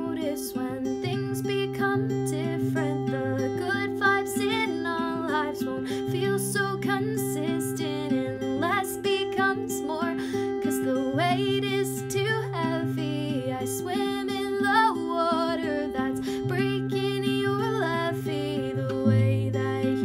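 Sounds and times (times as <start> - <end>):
acoustic guitar strummed: 0.0 - 20.0
woman singing: 0.0 - 20.0.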